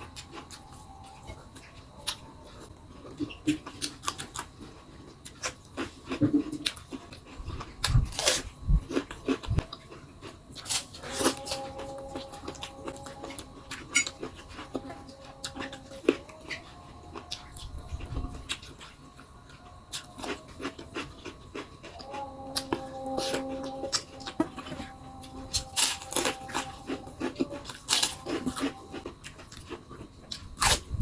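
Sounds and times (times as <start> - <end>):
crunching raw vegetables: 0.0 - 31.0
thin steady whine: 0.0 - 31.0.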